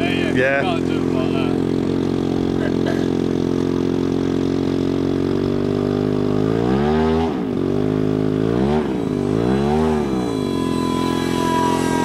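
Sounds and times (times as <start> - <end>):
model aircraft engine drone: 0.0 - 12.0.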